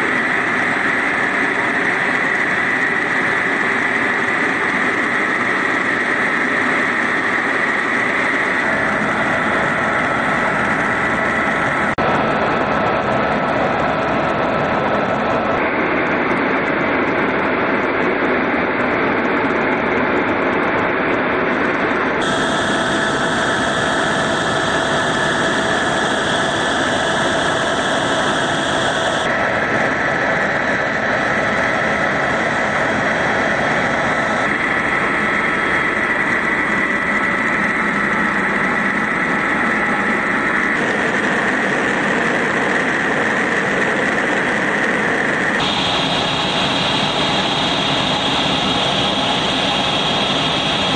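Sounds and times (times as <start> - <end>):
helicopter turbine and rotor: 0.0 - 50.9.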